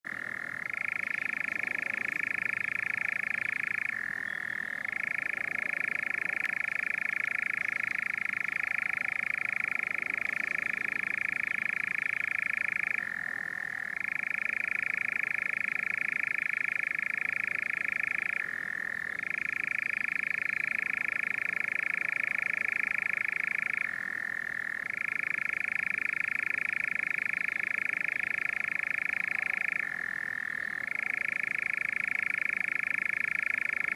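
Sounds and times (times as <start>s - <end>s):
nightjar churring: 0.0s - 33.9s.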